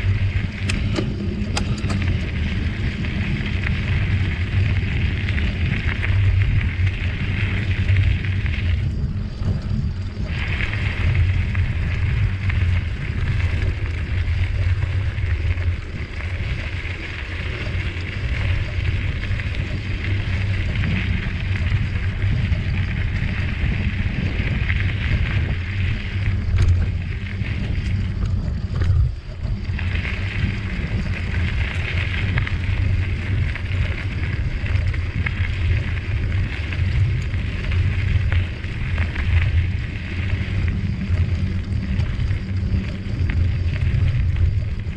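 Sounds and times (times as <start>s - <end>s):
bicycle tyres on trail: 0.0s - 44.9s
wind buffeting microphone: 0.0s - 44.9s.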